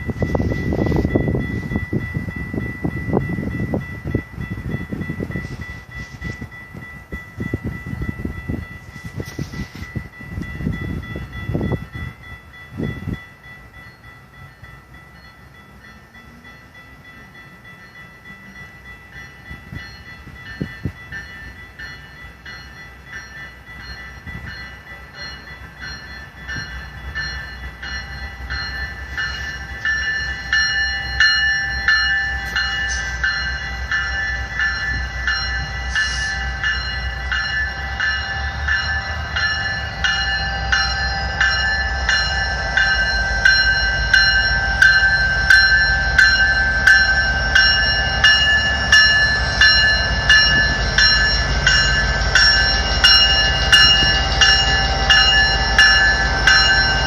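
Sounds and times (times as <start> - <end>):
level crossing bell ringing: 0.0 - 57.0
train rumbling: 0.0 - 57.0.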